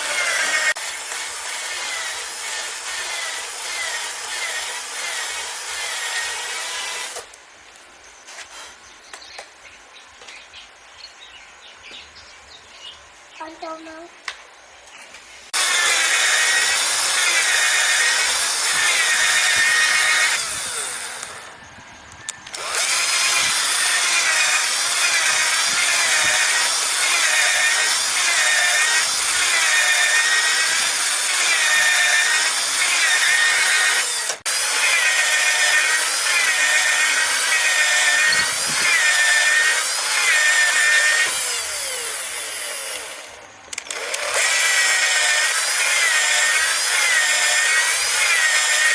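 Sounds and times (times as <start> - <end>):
hand saw cutting bamboo: 0.0 - 7.3, 15.5 - 21.5, 22.5 - 48.9.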